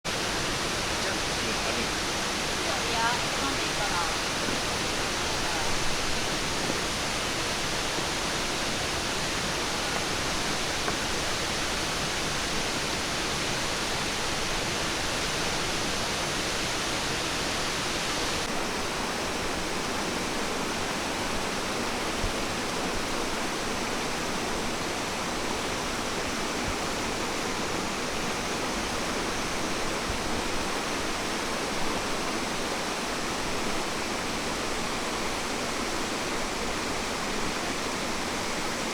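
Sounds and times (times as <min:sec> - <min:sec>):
rush of falling water: 0:00.1 - 0:38.9.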